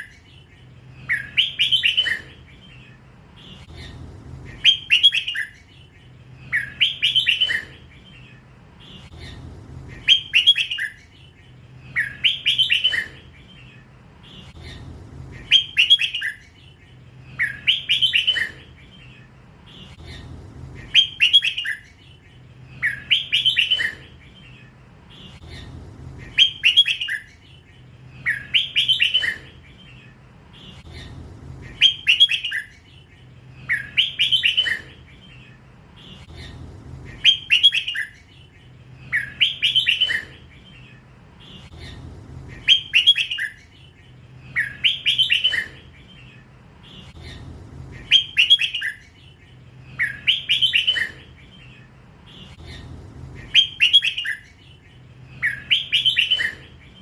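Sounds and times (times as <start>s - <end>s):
bird singing warbled phrase: 0.0s - 57.0s.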